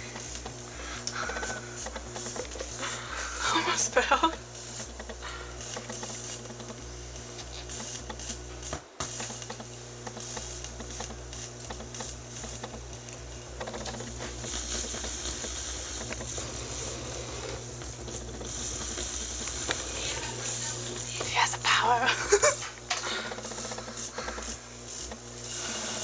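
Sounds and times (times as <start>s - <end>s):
loudspeaker hum with crackly hiss: 0.0s - 26.0s.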